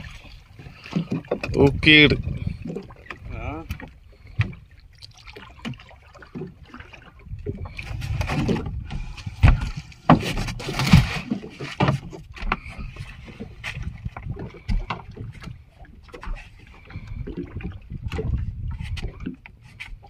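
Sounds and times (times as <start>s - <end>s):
water splashing: 0.0s - 20.0s.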